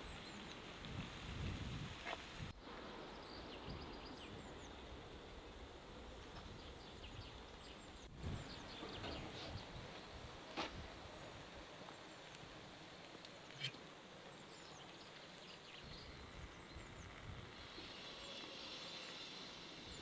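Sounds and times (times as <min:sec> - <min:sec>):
small birds chirping: 0:00.0 - 0:00.7, 0:02.8 - 0:20.0.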